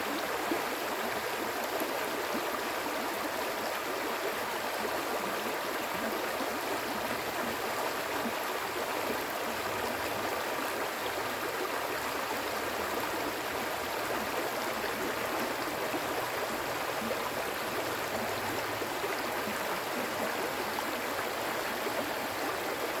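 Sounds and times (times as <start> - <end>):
stream water gurgling: 0.0 - 23.0.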